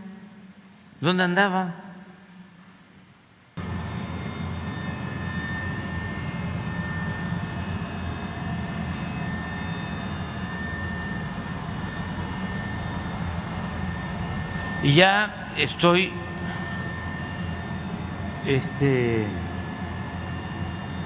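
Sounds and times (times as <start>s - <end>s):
aircraft cabin engine drone: 3.6s - 21.0s
high-pitched whine: 3.6s - 21.0s.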